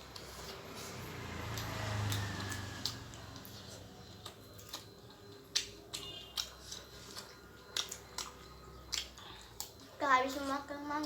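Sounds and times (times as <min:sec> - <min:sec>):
mouth clicks and smacks chewing: 0:00.0 - 0:10.6.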